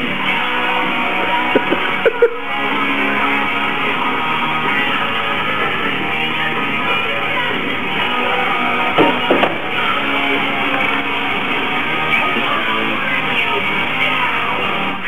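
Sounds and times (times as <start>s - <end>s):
guitar music: 0.0s - 15.0s.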